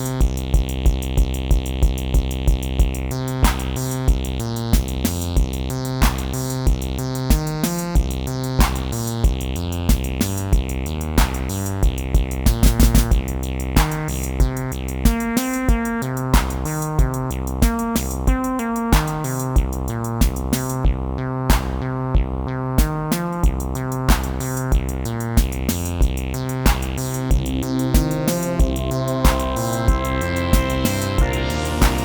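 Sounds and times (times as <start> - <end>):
hi-hat-like ticks: 0.0 - 20.8, 23.2 - 32.0
electronic drum kick hits: 0.0 - 32.0
stepping synth notes: 2.0 - 32.0.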